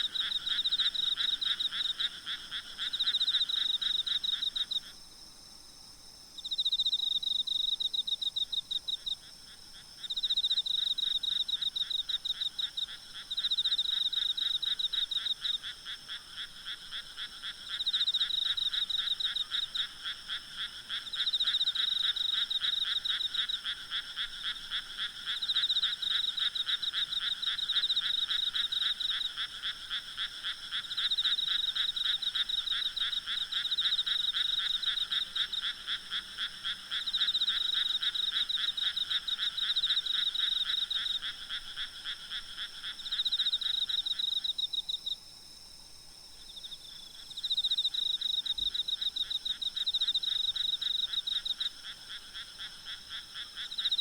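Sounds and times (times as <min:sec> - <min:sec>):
frogs croaking: 0:00.0 - 0:05.0, 0:06.3 - 0:45.7, 0:46.3 - 0:54.0.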